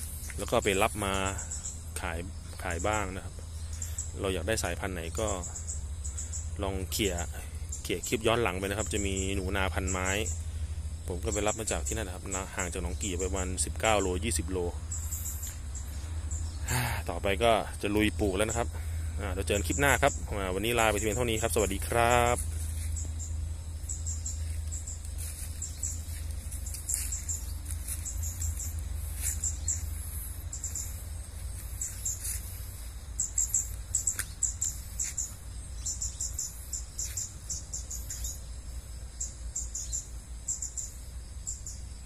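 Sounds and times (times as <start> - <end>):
steady low rumble: 0.0 - 41.8
small birds chirping: 0.0 - 42.0.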